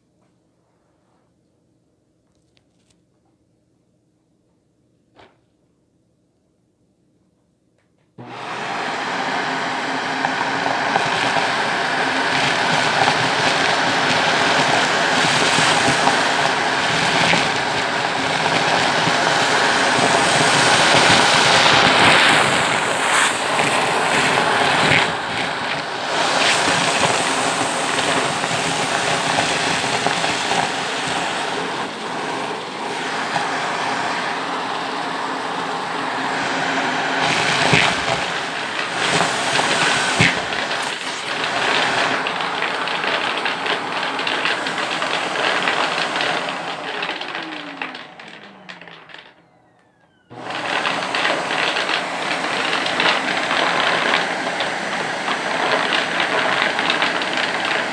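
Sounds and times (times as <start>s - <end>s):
vacuum cleaner running: 8.2s - 57.9s.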